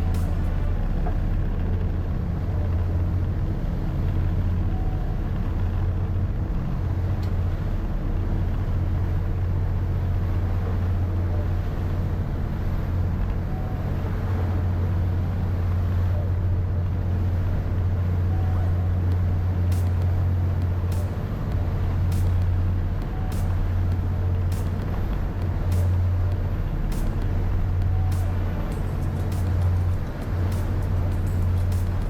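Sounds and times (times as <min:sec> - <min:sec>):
low engine drone: 0:00.0 - 0:32.0.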